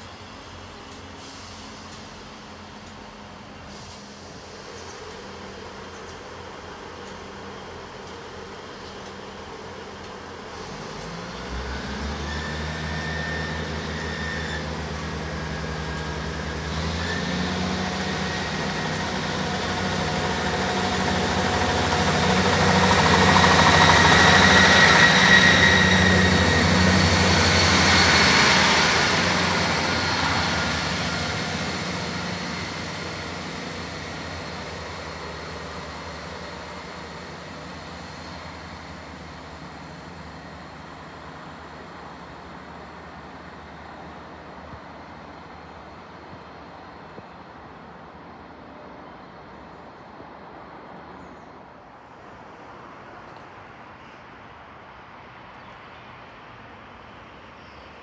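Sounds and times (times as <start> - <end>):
train wheels on rails: 0.0 - 49.6
diesel train engines droning: 0.0 - 58.0.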